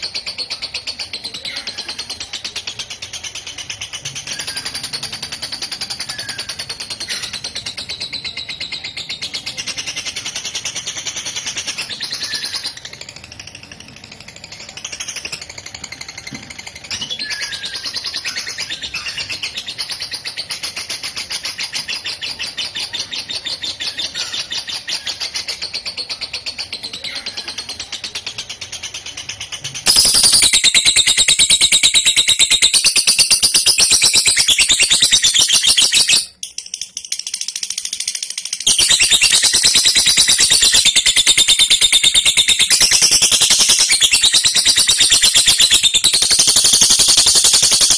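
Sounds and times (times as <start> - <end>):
lovebird high-pitched chatter: 0.0 - 47.9.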